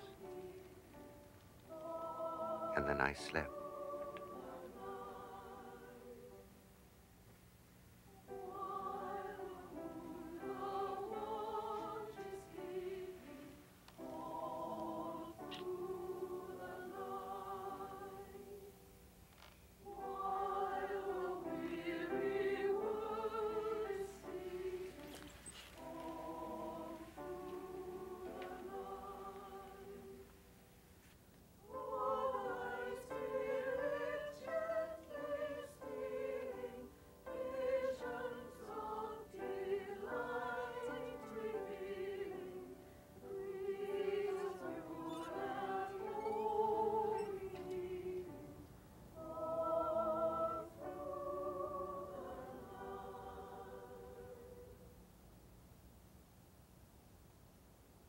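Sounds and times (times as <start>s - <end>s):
choir singing: 0.0s - 6.6s, 8.2s - 18.9s, 19.8s - 30.4s, 31.6s - 55.0s.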